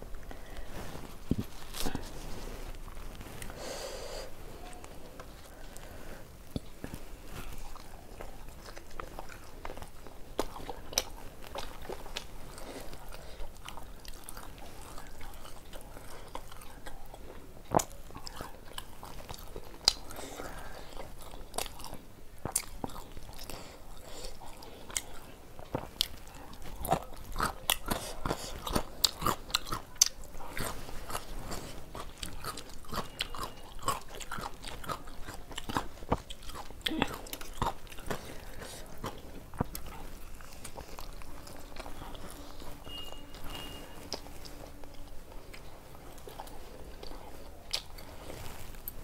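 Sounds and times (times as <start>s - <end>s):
person chewing food: 0.0s - 49.0s.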